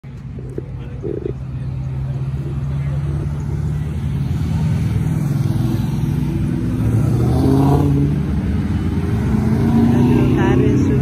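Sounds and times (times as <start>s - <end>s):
engine accelerating: 0.1s - 11.0s
race cars driving past: 0.1s - 11.0s.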